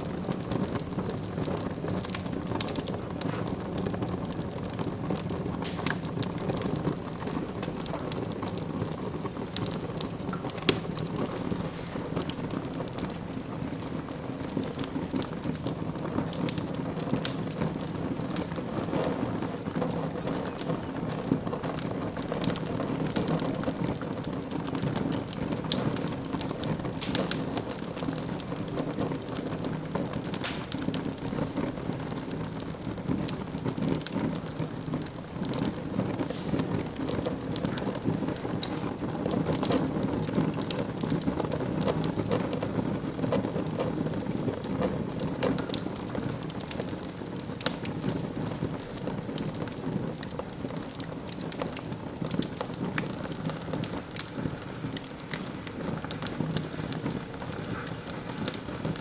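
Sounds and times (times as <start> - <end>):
fire crackling and popping: 0.0 - 59.0
wood fire hissing and rumbling: 0.0 - 59.0.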